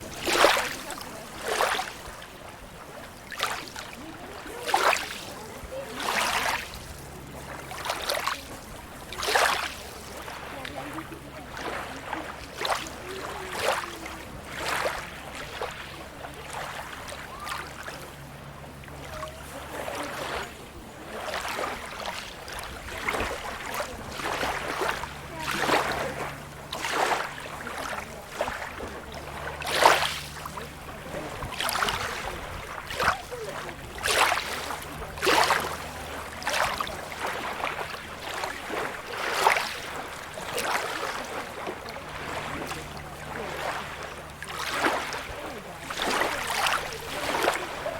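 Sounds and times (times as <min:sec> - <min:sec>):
flowing water rushing: 0:00.0 - 0:47.9
small waves lapping and splashing: 0:00.0 - 0:47.9.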